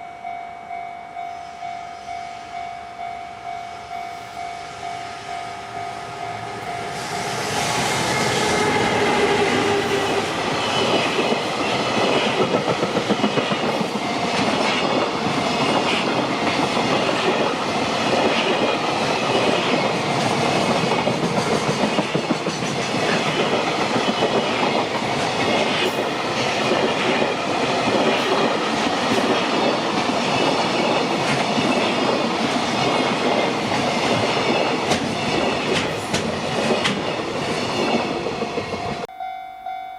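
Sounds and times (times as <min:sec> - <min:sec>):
level-crossing warning bell: 0:00.0 - 0:20.3, 0:23.4 - 0:39.9
train rumble: 0:02.0 - 0:39.1.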